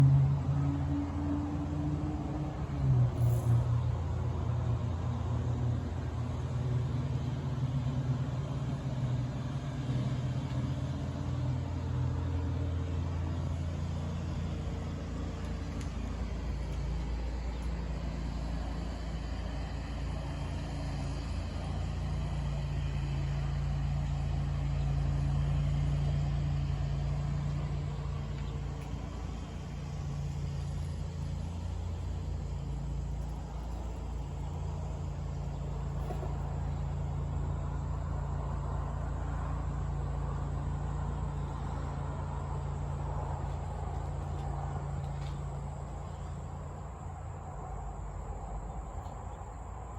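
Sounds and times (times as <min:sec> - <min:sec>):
low motor rumble: 0:00.0 - 0:49.9.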